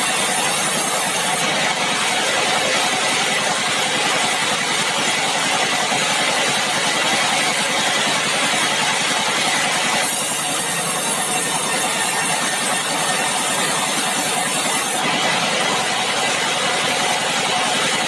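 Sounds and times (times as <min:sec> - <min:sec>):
sawmill machinery engine running: 0:00.0 - 0:18.0.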